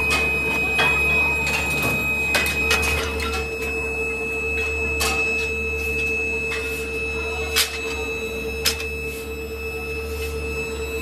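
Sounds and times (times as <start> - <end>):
furnace electrical hum: 0.0 - 11.0.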